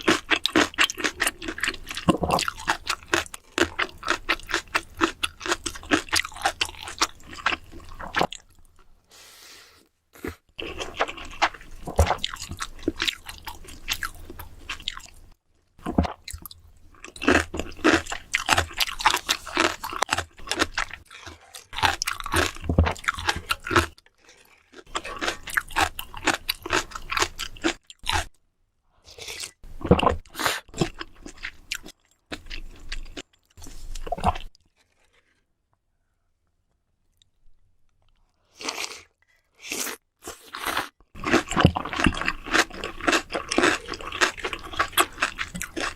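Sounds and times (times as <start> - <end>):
crisp food chewing and crunching: 0.0 - 9.0, 10.2 - 28.4, 29.1 - 35.6, 37.1 - 45.9.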